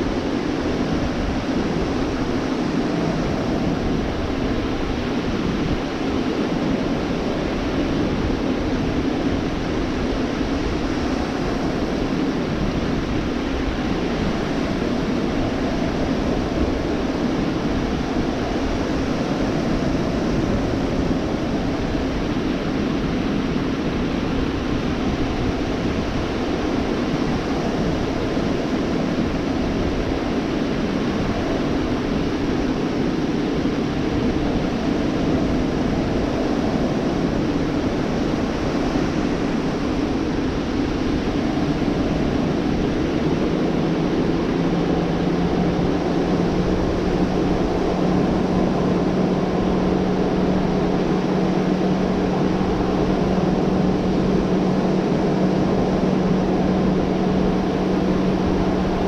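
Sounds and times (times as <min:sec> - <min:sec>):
low engine drone: 0:00.0 - 0:59.0
surf washing: 0:00.0 - 0:59.0.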